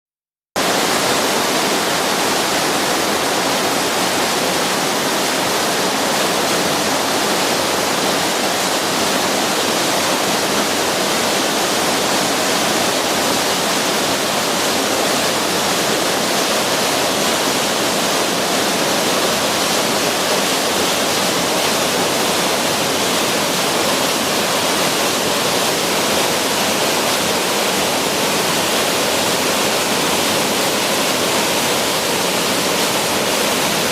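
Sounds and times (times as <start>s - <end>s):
waterfall rushing over rock: 0.6s - 33.9s.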